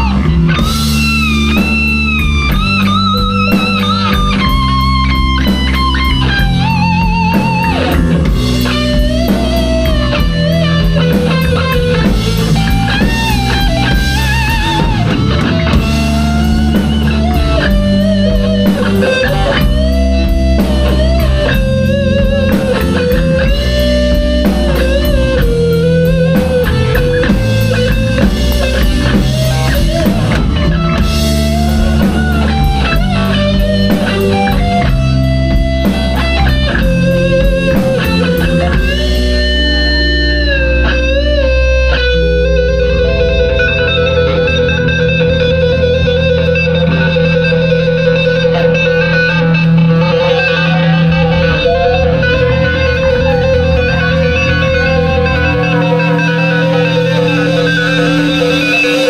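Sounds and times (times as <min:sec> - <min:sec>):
bass guitar: 0:00.0 - 0:59.0
drum kit: 0:00.0 - 0:59.0
lead electric guitar: 0:00.0 - 0:59.0.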